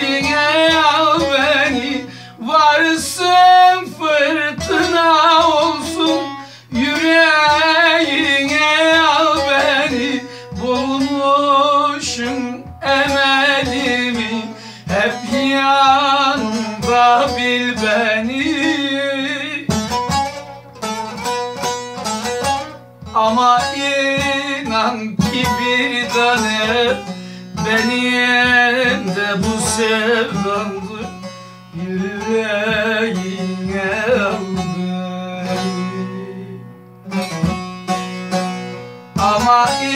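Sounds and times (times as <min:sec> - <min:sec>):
long-necked lute strummed: 0:00.0 - 0:39.9
man singing folk melody: 0:00.0 - 0:39.9.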